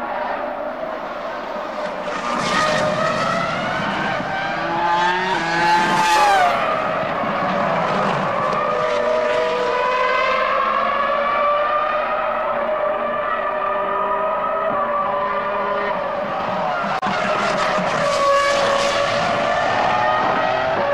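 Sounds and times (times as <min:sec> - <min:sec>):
racing car engine at high revs: 0:00.0 - 0:20.9.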